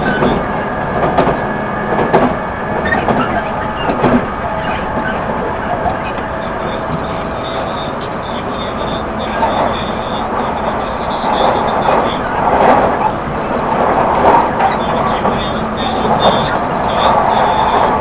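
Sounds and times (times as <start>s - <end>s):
constant hum: 0.0s - 18.0s
rumble of wheels on rail: 0.0s - 18.0s.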